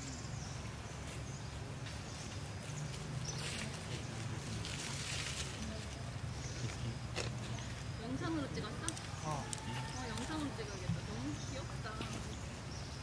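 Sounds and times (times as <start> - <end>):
rustling of dry leaves: 0.0 - 13.0.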